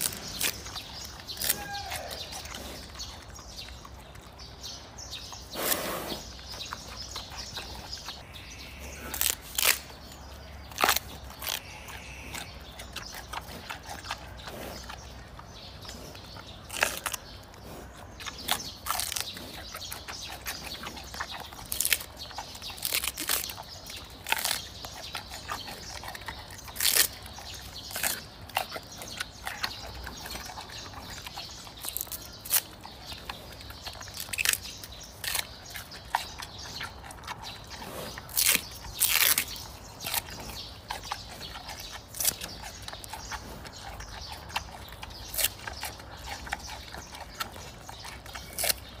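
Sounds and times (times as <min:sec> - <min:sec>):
panda chewing bamboo: 0:00.0 - 0:49.0.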